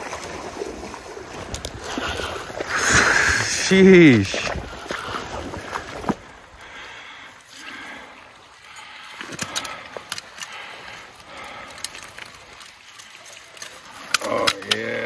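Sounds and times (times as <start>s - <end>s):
faint running water: 0.0s - 15.0s.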